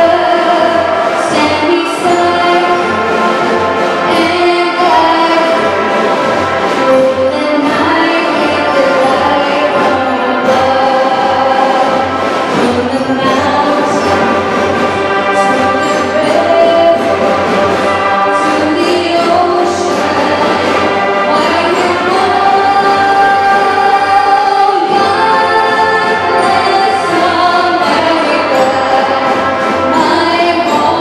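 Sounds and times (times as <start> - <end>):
girl singing into microphone: 0.0 - 3.0, 4.1 - 5.8, 6.9 - 14.5, 15.3 - 17.2, 18.4 - 31.0
mariachi band playing: 0.0 - 31.0.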